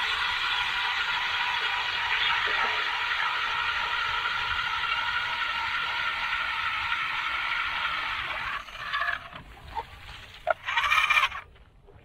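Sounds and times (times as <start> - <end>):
ice auger motor whine: 0.0 - 11.4
auger worked in ice hole: 0.0 - 12.0.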